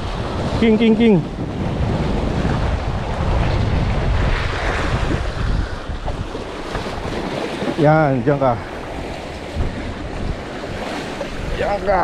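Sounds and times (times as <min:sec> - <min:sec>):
waves washing against rocks: 0:00.0 - 0:12.0
wind buffeting microphone: 0:00.0 - 0:12.0.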